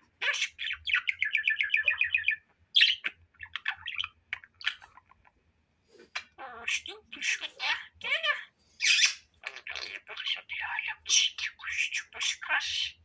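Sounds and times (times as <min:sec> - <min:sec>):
budgerigar chattering: 0:00.2 - 0:05.2, 0:06.2 - 0:13.0.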